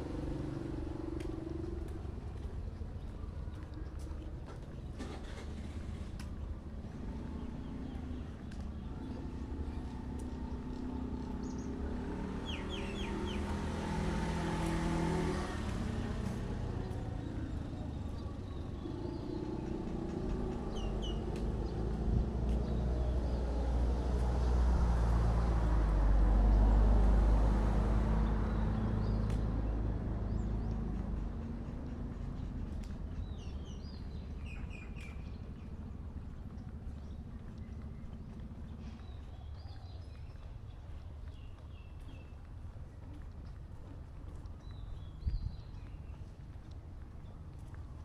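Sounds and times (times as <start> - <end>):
vehicle engine rumbling: 0.0 - 48.0.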